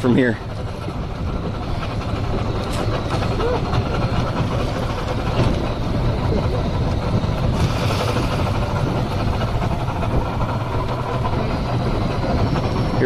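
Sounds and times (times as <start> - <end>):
outboard motor running: 0.0 - 13.0
water noise: 0.0 - 13.0
wind: 0.0 - 13.0.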